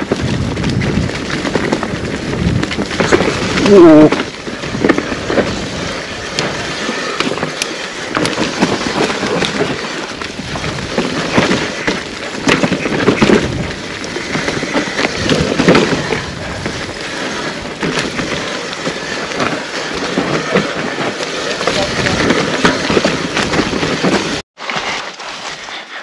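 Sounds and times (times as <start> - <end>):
bike knocking and rattling: 0.0 - 25.6
bike tyres on dirt: 0.0 - 26.0.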